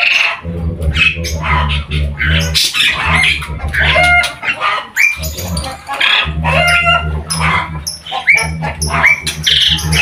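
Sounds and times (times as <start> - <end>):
caged birds chirping and calling: 0.0 - 10.0
steady low hum: 0.4 - 4.5, 5.2 - 10.0.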